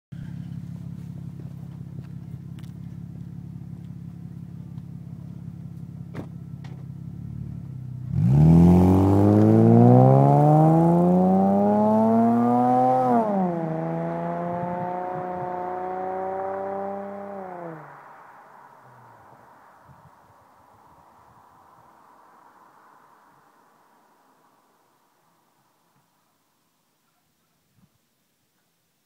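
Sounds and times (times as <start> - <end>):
car engine idling and revving: 0.1 - 26.1.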